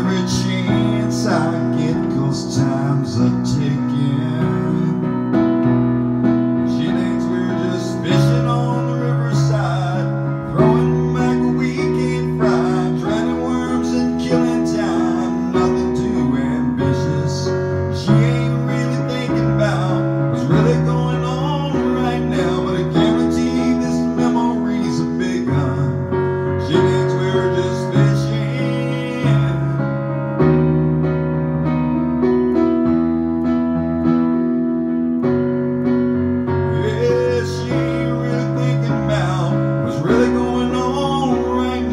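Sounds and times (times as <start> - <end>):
piano ballad chords: 0.0 - 41.9.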